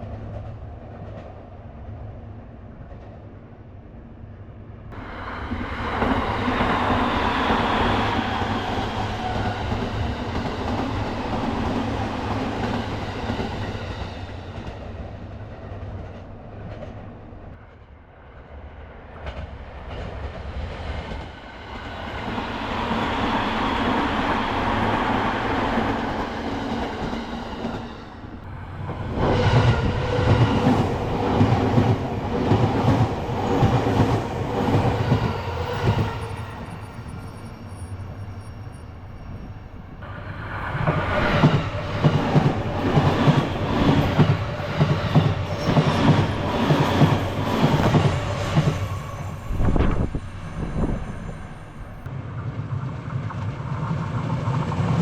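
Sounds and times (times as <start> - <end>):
train rushing: 4.9 - 55.0.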